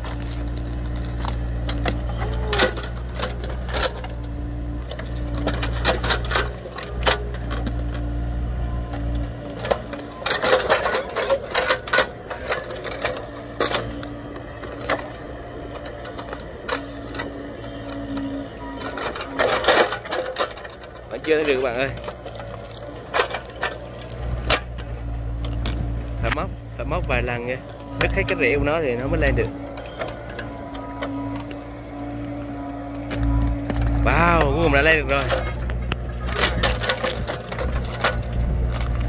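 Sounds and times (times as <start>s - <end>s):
roots cracking and knocks: 0.0s - 4.2s, 8.9s - 39.0s
excavator diesel engine: 0.0s - 39.0s
hydraulic whine: 0.0s - 39.0s.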